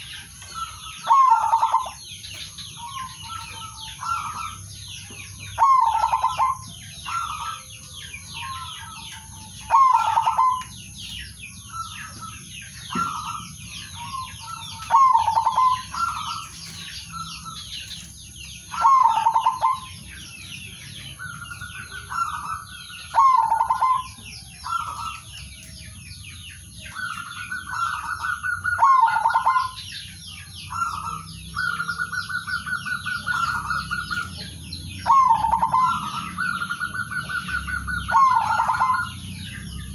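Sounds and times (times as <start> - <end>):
dove cooing: 0.0 - 25.6, 26.8 - 39.9.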